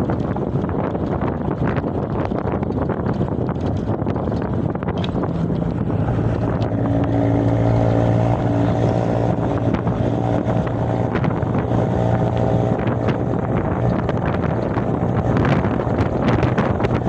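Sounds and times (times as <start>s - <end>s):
engine drone: 0.0s - 17.0s
wind buffeting microphone: 0.0s - 17.0s.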